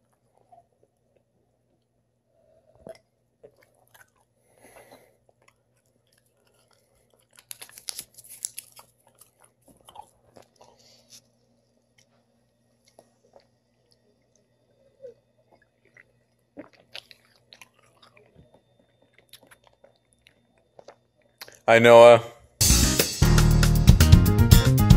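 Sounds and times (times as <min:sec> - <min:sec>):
person chewing paper: 0:00.0 - 0:01.9, 0:02.6 - 0:21.6.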